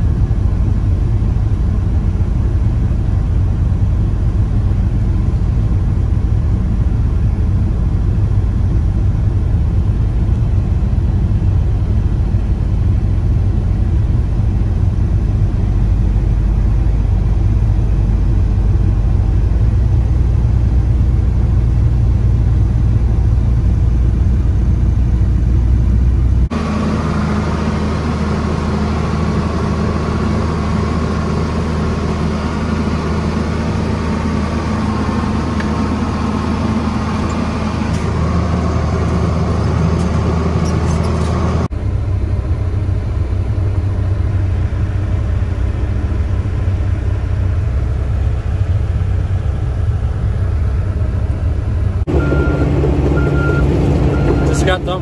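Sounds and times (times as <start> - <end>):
excavator engine running: 0.0 - 55.0
tractor engine droning: 0.0 - 55.0.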